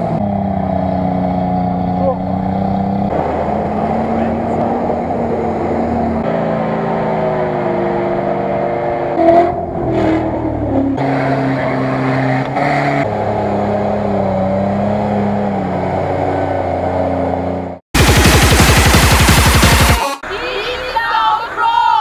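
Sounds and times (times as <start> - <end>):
suv engines revving in mud: 0.0 - 19.5.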